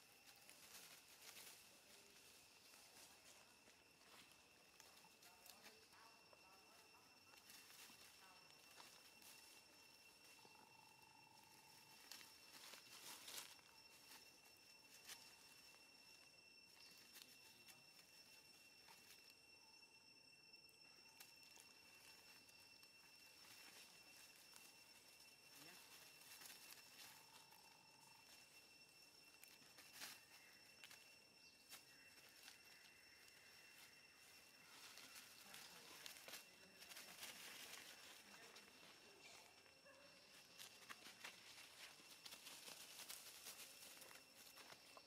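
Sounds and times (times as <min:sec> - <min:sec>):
faint high-pitched tone: 0:00.0 - 0:45.0.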